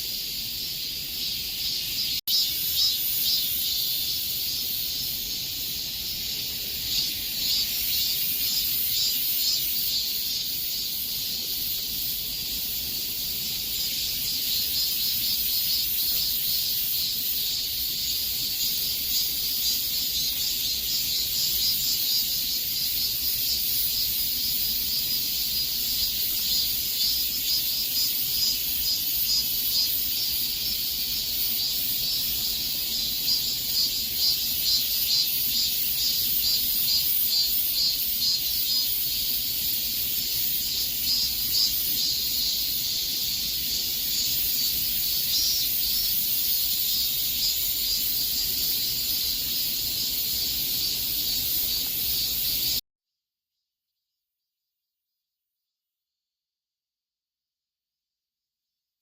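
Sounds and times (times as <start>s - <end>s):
cicadas buzzing: 0.0s - 52.8s.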